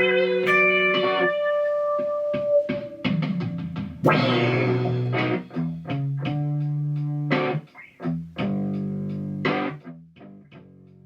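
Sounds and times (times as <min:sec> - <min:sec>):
distorted electric guitar chords: 0:00.0 - 0:09.9.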